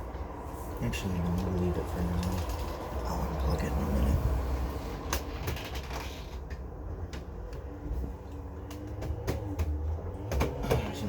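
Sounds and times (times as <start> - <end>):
air conditioner clicks and knocks: 0.0 - 3.7, 5.0 - 11.0.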